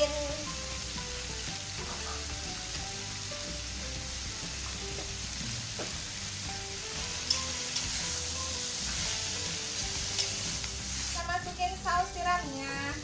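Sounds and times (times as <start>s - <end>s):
greens sizzling in hot oil: 0.0s - 13.0s.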